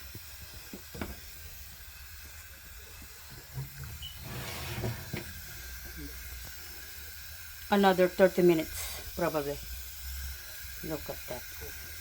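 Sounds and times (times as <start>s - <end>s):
oven roasting hiss: 0.0s - 12.0s.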